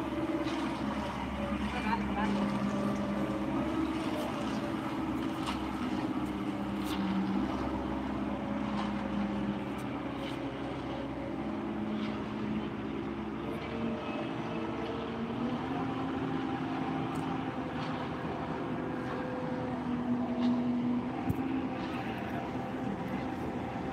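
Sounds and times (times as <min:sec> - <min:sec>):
concrete mixer engine running: 0:00.0 - 0:23.9.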